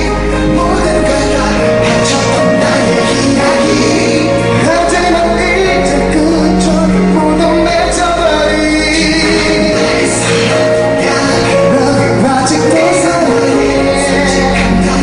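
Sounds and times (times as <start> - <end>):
man singing into a microphone: 0.0 - 15.0
pop backing music: 0.0 - 15.0.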